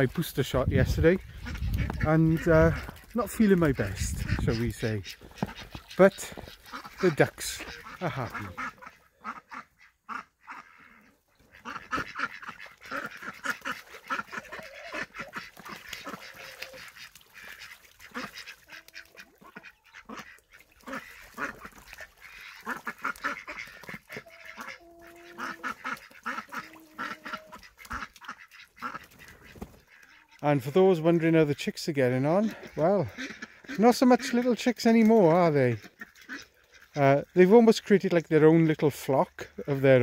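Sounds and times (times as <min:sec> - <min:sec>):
ducks quacking: 0:00.0 - 0:40.0
low duck calls: 0:00.7 - 0:30.4, 0:32.4 - 0:34.4, 0:35.7 - 0:37.3.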